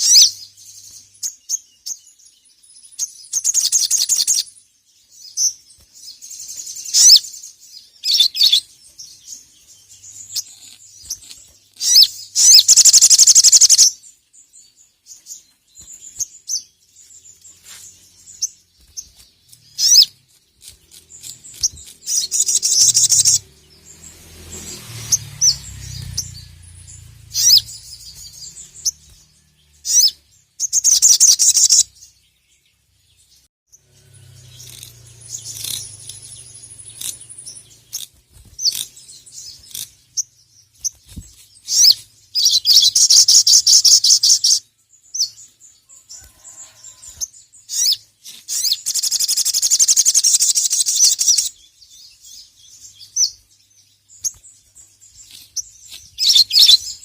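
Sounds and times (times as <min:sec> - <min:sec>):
bird singing rapid high trills: 0:00.0 - 0:57.0.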